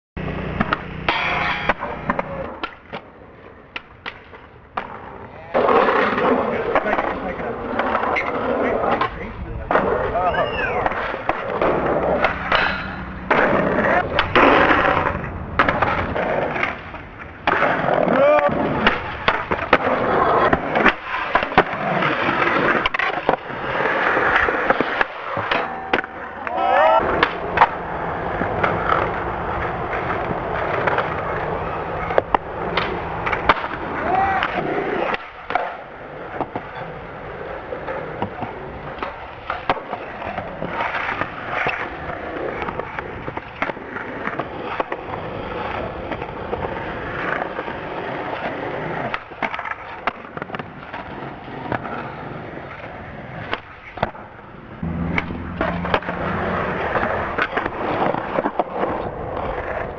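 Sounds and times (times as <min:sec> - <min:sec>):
skateboard clacks: 0:00.2 - 0:59.9
skateboard wheels rolling on concrete: 0:00.2 - 0:59.9.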